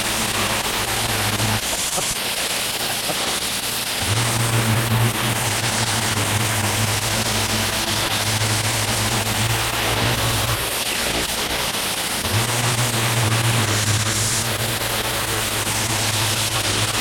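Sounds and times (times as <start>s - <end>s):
low motor hum: 0.0s - 17.0s
pressure washer spray hissing: 0.0s - 17.0s.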